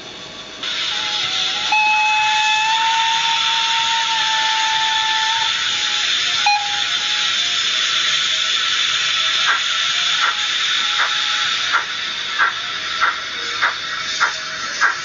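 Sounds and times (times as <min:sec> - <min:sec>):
model locomotive steam hiss: 0:00.0 - 0:15.0.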